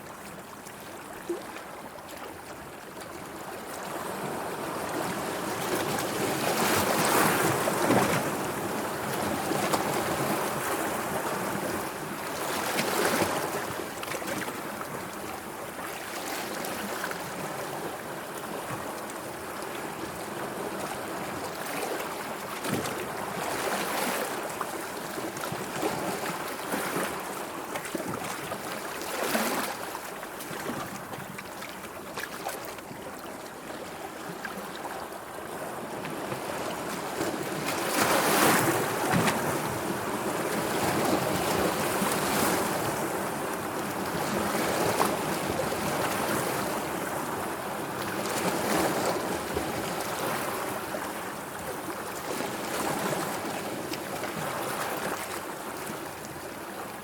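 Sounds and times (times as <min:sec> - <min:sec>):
sea water lapping and splashing: 0:00.0 - 0:57.0.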